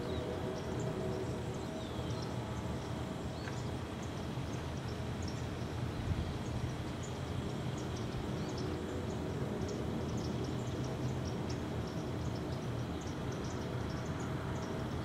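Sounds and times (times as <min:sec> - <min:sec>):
faint continuous hum: 0:00.0 - 0:15.0.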